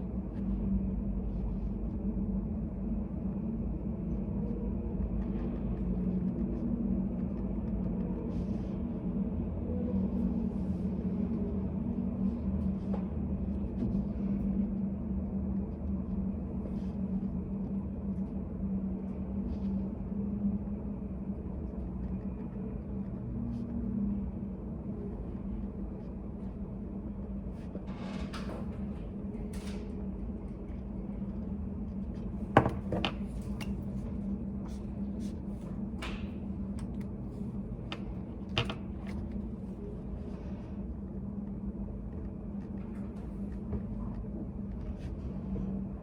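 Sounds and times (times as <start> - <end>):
low room hum: 0.0 - 46.0.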